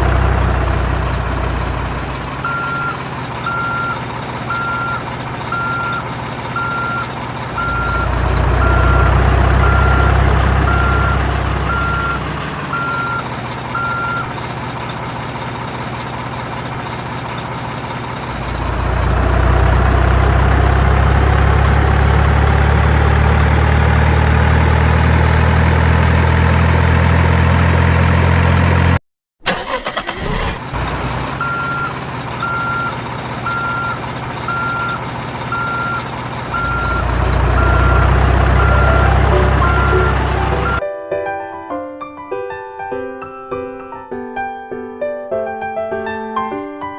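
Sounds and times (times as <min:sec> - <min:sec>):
truck reversing beeper: 0:00.0 - 0:16.2, 0:18.3 - 0:40.8
heavy truck engine running: 0:00.0 - 0:40.8.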